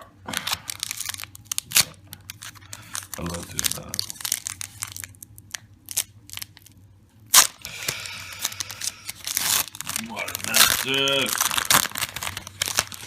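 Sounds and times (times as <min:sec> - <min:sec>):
foil wrapper crinkling: 0:00.3 - 0:13.0.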